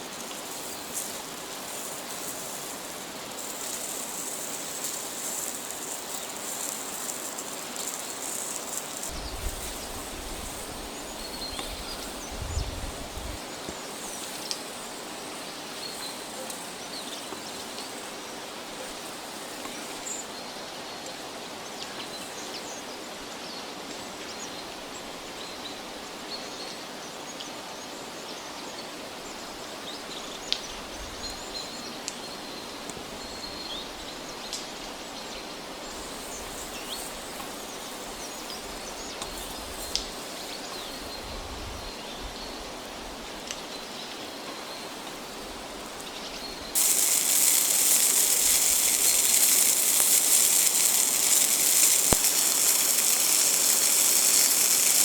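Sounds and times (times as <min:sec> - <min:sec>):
even forest hiss: 0:00.0 - 0:55.0.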